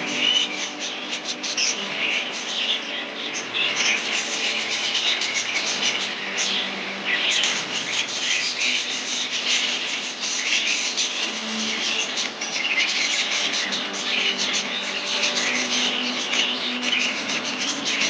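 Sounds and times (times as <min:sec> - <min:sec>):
budgerigars chirping: 0:00.0 - 0:18.0.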